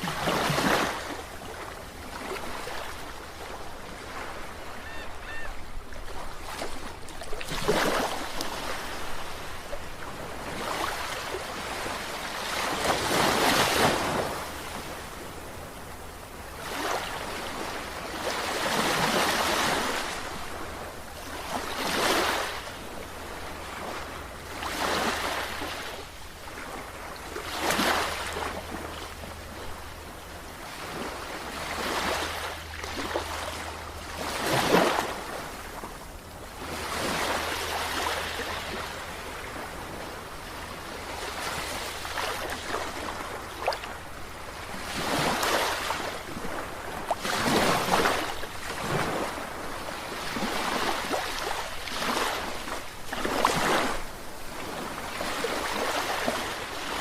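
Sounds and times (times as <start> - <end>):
sea waves breaking: 0.0 - 15.7, 16.5 - 57.0.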